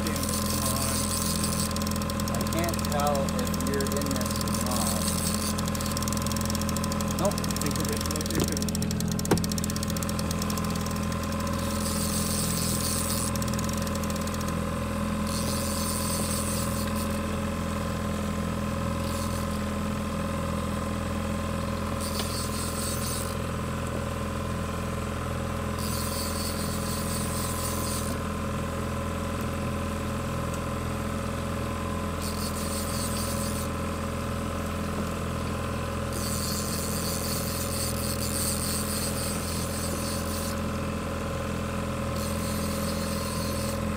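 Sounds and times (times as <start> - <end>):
outboard motor idling: 0.0 - 43.9.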